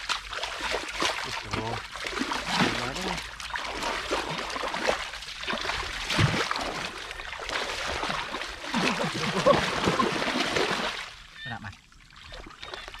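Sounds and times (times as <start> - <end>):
hands sloshing through muddy water: 0.0 - 11.2.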